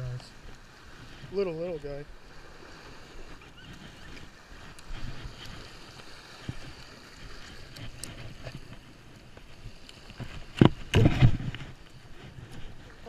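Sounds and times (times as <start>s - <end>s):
small surf: 0.0s - 13.0s
wind buffeting microphone: 0.0s - 13.0s.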